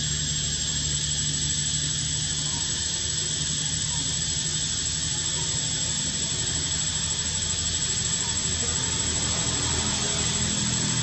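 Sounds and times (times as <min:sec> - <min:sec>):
droning hiss: 0:00.0 - 0:11.0.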